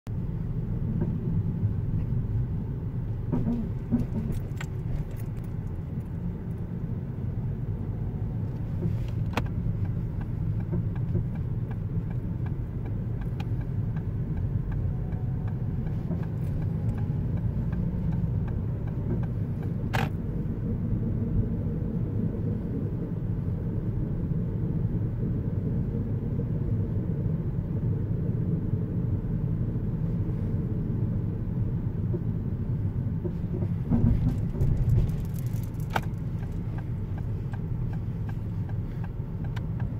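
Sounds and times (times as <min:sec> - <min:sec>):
car road rumble: 0:00.1 - 0:39.9.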